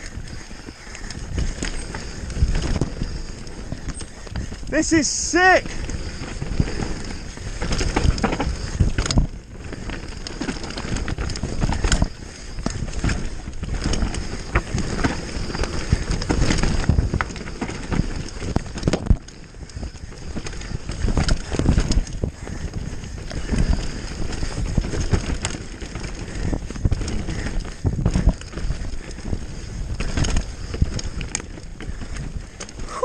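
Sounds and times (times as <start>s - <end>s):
bike knocking and rattling: 0.0s - 33.0s
bike tyres on dirt trail: 0.0s - 33.0s
wind buffeting microphone: 0.0s - 33.0s.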